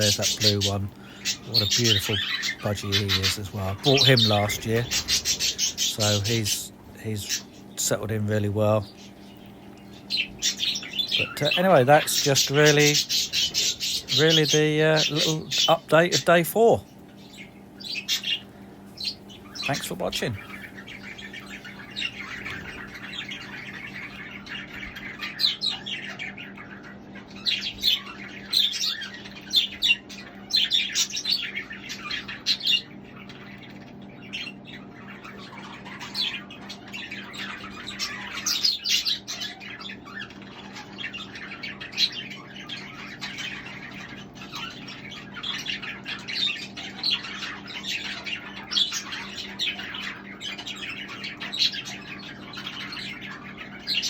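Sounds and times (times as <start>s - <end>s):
budgerigars chirping and warbling: 0.0s - 54.0s
steady low hum: 0.0s - 54.0s.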